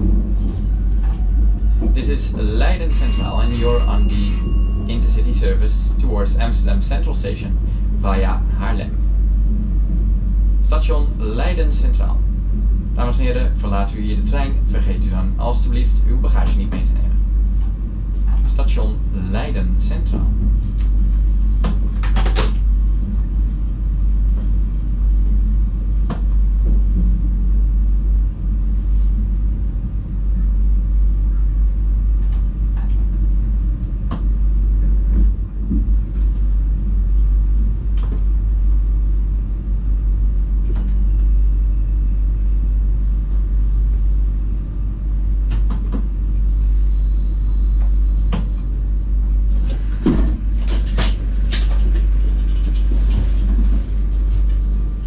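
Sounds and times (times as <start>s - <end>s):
train cab rumble: 0.0s - 41.7s, 44.8s - 55.0s.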